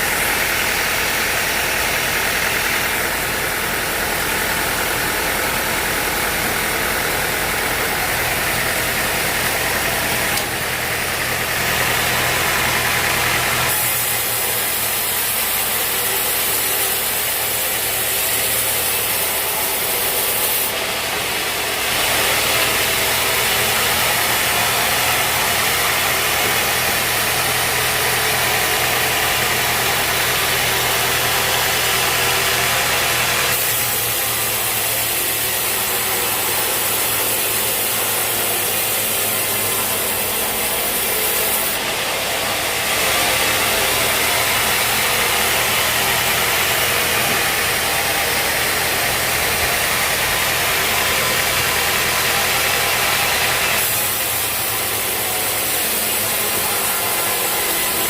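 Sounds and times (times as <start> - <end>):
loud broad hiss of saw: 0.0 - 58.0
sawmill engine hum: 0.0 - 58.0.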